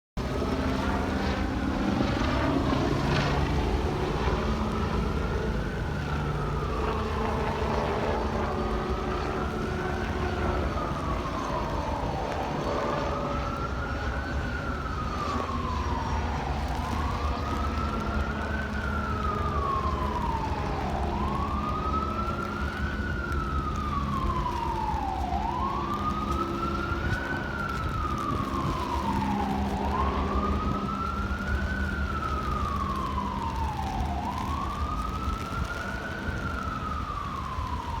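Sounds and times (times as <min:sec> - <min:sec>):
emergency vehicle siren wailing: 0:00.2 - 0:38.0.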